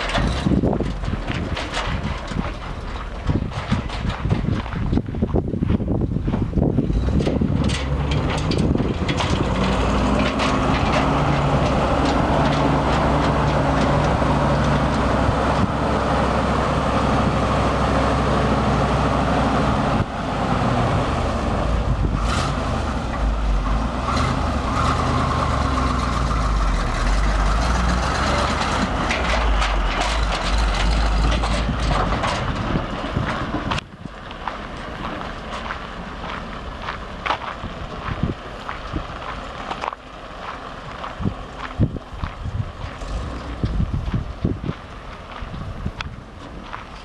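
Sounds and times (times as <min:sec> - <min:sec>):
truck engine running: 0:00.0 - 0:47.0.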